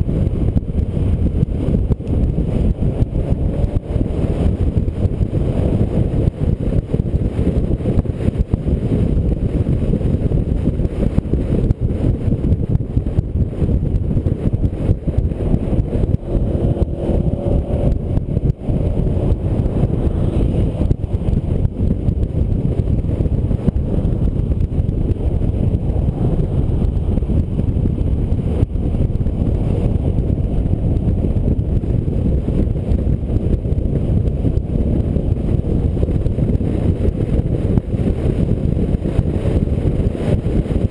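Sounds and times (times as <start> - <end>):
road noise: 0.0 - 40.9
wind buffeting camera: 0.0 - 40.9.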